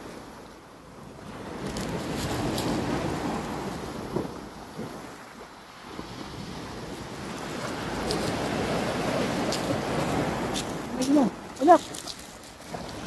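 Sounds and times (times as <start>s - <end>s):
surf washing over pebbles: 0.0s - 13.0s.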